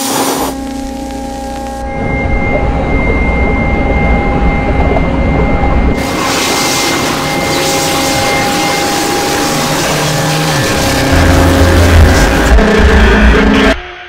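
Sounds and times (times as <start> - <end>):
low rumbling drone: 0.0 - 14.0
steady held tones: 0.0 - 14.0.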